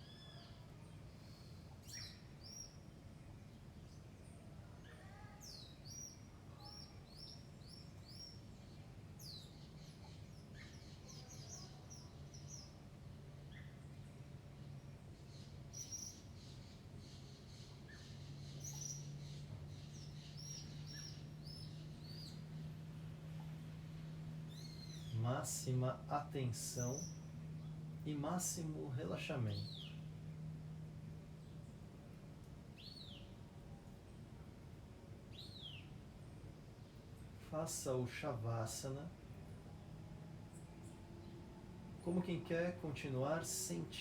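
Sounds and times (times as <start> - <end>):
faint songbirds chirping: 0.0 - 44.0
low steady hum: 0.0 - 44.0.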